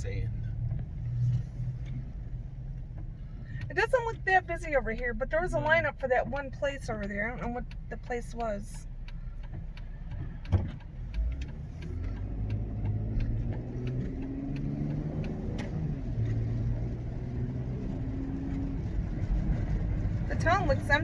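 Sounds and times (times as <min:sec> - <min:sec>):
car engine from inside cabin: 0:00.0 - 0:21.0
road rumble: 0:00.0 - 0:21.0.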